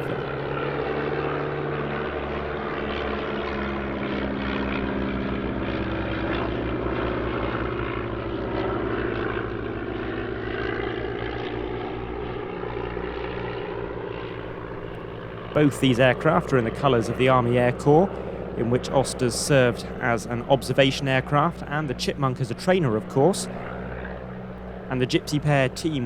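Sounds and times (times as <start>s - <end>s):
propeller aircraft engines flying past: 0.0s - 26.0s.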